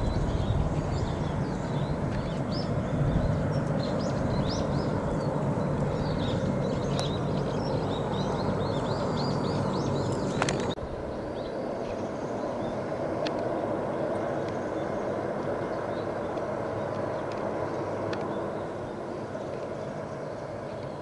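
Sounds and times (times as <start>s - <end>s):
distant hovercraft engine drone: 0.0s - 21.0s.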